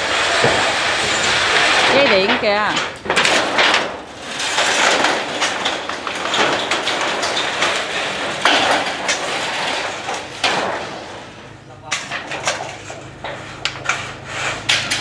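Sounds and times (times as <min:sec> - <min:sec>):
metal roofing sheets clattering: 0:00.0 - 0:15.0.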